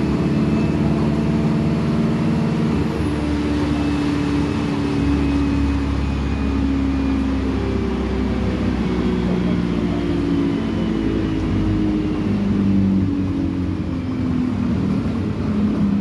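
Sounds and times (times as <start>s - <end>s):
bus engine drone from inside: 0.0s - 16.0s
deep rumble: 0.0s - 16.0s.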